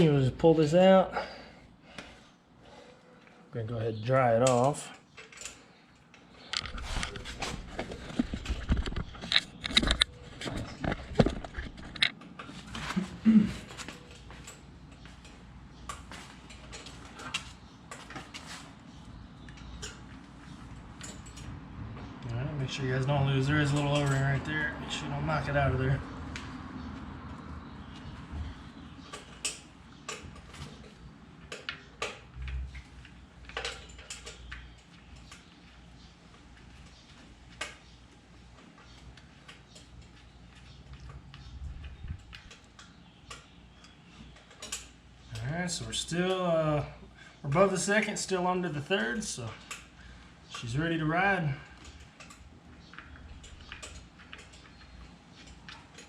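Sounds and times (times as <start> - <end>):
light clicks of tools and parts: 4.4 - 13.0, 13.6 - 24.6, 25.3 - 56.0.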